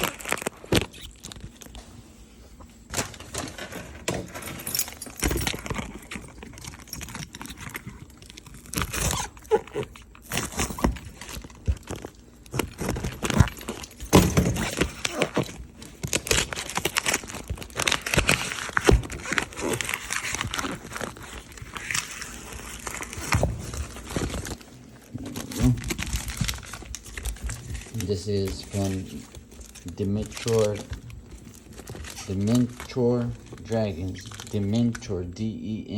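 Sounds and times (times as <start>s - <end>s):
box and packing material tearing: 0.0s - 1.8s, 2.9s - 35.1s.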